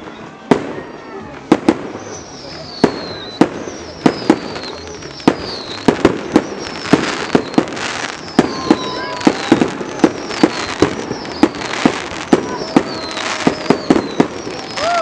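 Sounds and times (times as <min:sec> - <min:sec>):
fireworks bangs: 0:00.0 - 0:15.0
fireworks falling whistles: 0:00.0 - 0:15.0.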